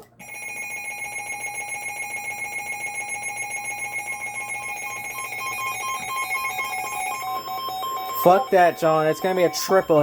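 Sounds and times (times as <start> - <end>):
buzzing alarm tone: 0.2 - 10.0
rapid alarm beeps: 0.3 - 10.0.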